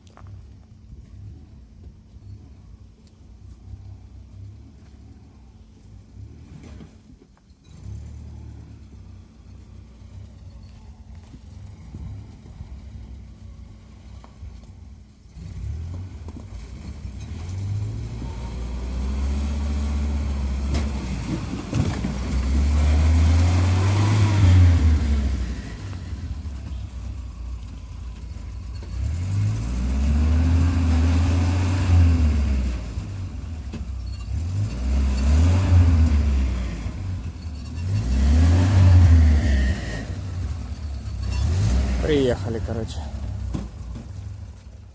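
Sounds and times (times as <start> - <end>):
vehicle engine accelerating: 3.7 - 44.9.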